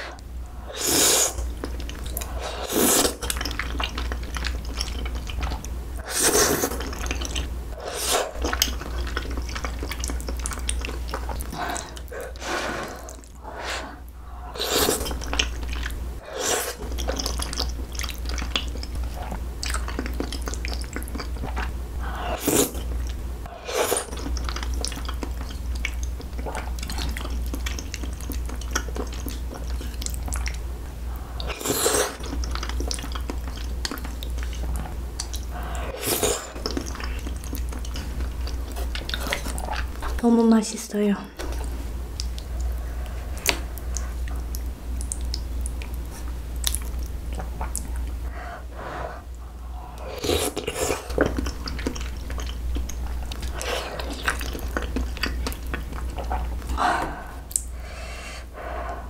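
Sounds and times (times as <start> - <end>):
wet chewing sounds: 0.0 - 40.3, 41.4 - 59.0.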